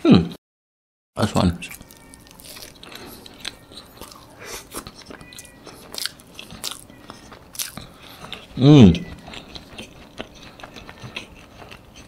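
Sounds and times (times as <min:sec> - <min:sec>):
chewing toast crunches: 0:01.6 - 0:08.5, 0:09.1 - 0:12.0.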